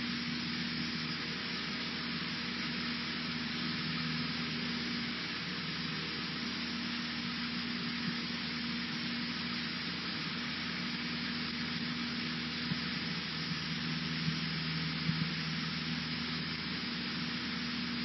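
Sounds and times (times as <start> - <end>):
aircraft engine and propeller: 0.0 - 18.0.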